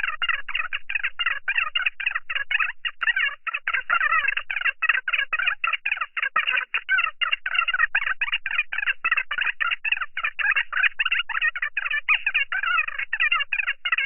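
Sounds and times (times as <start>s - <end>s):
sped-up phone voices chattering: 0.0s - 14.0s.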